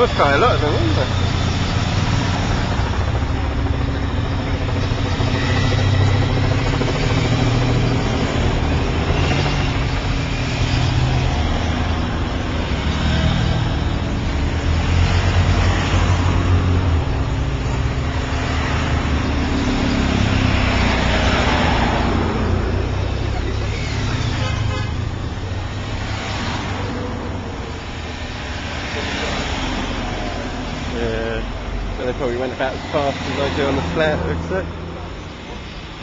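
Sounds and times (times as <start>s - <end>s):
vehicle engines passing by: 0.0s - 36.0s.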